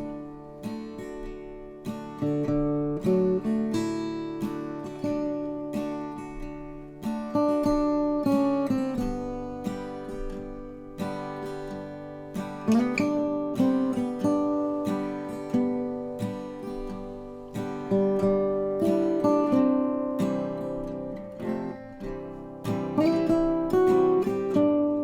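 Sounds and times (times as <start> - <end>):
acoustic guitar strummed chords: 0.0 - 25.0.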